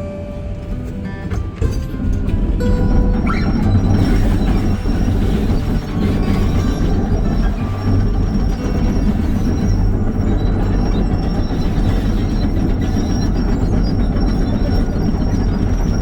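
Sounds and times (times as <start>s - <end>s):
excavator diesel engine running: 0.0s - 16.0s
thin high whine: 0.0s - 16.0s.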